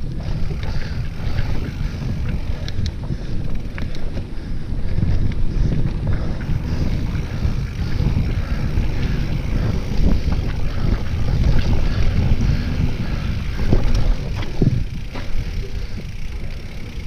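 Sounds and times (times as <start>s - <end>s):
bike knocking and rattling: 0.0s - 17.0s
wind rumble on microphone: 0.0s - 17.0s.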